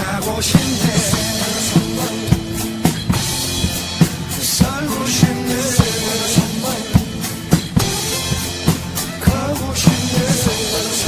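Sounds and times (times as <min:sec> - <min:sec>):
drum kit playing: 0:00.0 - 0:11.0
instrumental pop backing track: 0:00.0 - 0:11.0.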